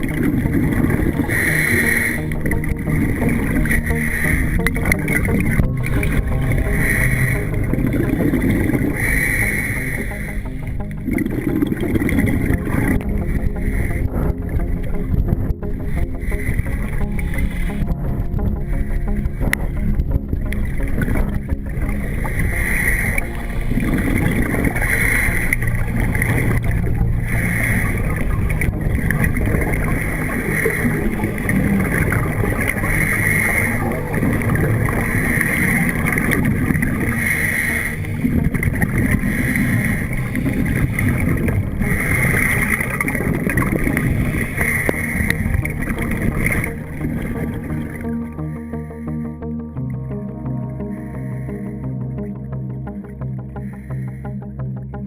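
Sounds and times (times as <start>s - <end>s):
rushing water: 0.0s - 48.4s
motorboat engine running: 0.0s - 55.0s.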